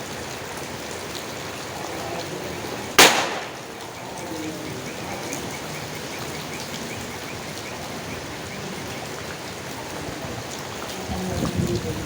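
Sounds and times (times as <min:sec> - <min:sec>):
rain falling on leaves: 0:00.0 - 0:12.0.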